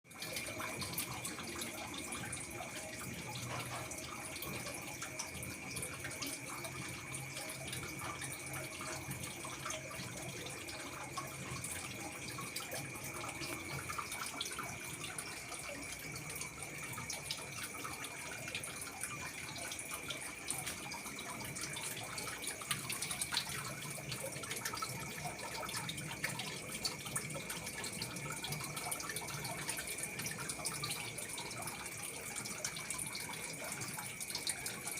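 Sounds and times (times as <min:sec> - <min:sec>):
water running and splashing: 0:00.1 - 0:34.9.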